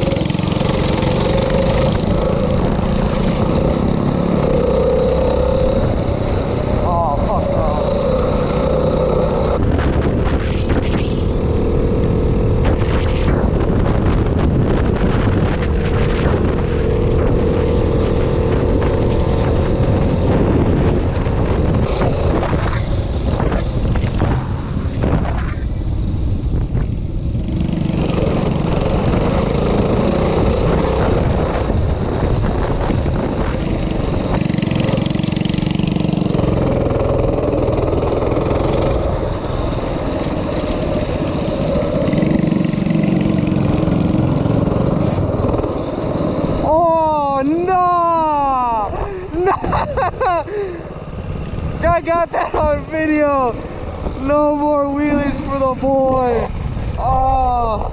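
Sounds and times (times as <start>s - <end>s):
minibike engine revving: 0.0s - 57.9s.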